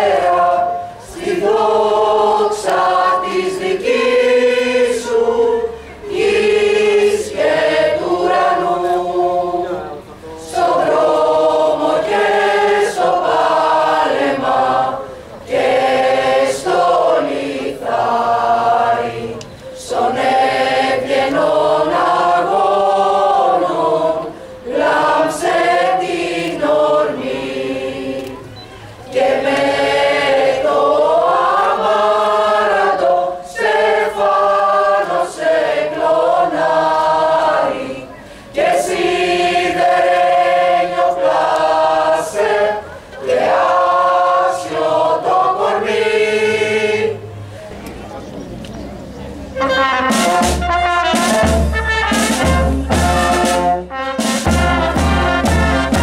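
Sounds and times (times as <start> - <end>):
mixed choir singing: 0.0 - 47.5, 50.2 - 56.0.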